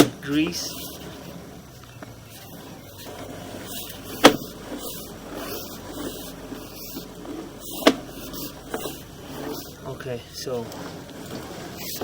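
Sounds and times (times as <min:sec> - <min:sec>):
cable rubbing and rattling: 0:00.0 - 0:12.0.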